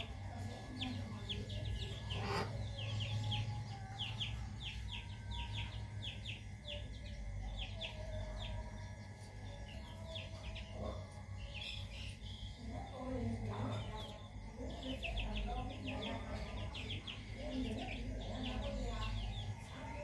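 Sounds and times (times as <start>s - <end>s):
steady low hum: 0.0s - 20.0s
young birds peeping: 0.0s - 20.0s.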